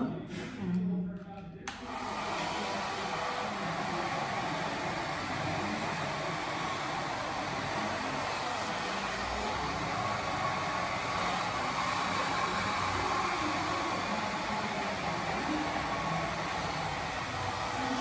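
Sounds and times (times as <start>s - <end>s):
hair dryer blowing: 1.7s - 18.0s.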